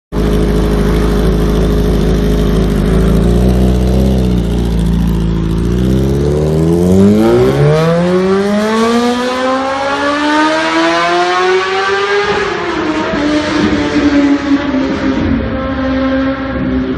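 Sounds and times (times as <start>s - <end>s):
motorcycle engine accelerating: 0.1s - 16.9s.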